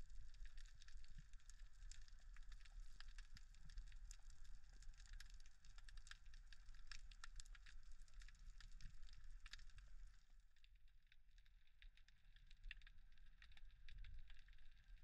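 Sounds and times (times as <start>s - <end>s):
low rumble of moving water: 0.0s - 15.0s
underwater crackling and clicking: 0.0s - 15.0s.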